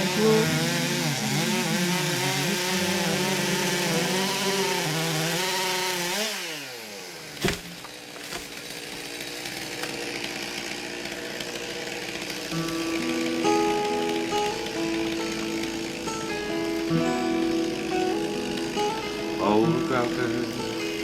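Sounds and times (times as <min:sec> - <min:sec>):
chainsaw engine running: 0:00.0 - 0:21.0.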